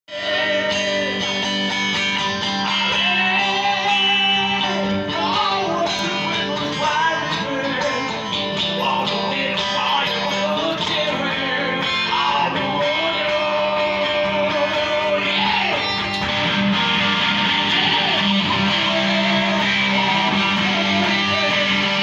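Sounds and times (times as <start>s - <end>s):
guitar-like lead melody: 0.1s - 22.0s.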